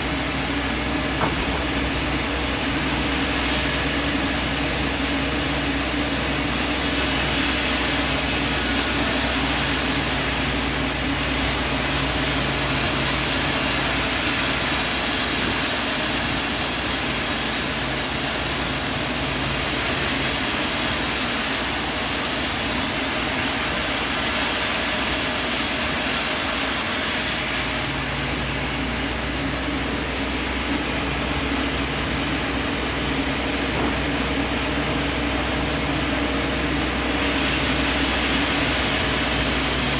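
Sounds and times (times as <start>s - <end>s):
band sawmill drone: 0.0s - 39.9s
high-pitched hiss: 0.0s - 39.9s.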